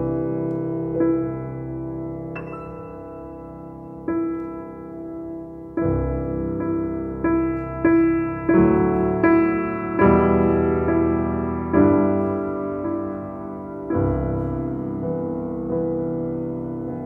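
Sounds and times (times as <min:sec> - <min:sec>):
slow ambient piano music: 0:00.0 - 0:17.0.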